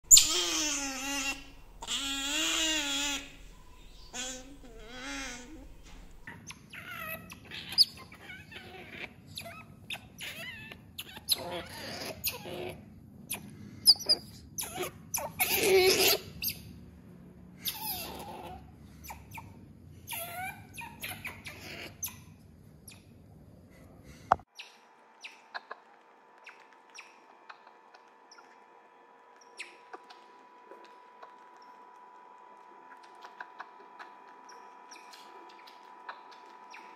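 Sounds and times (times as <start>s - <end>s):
otters squeaking and chirping: 0.0s - 16.8s, 17.6s - 23.2s, 24.5s - 28.7s, 29.3s - 31.9s, 32.8s - 36.9s
faint steady hum: 0.0s - 36.9s.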